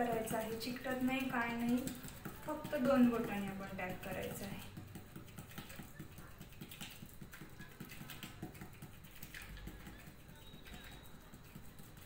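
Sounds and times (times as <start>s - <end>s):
fingertips patting dough: 0.0s - 12.0s.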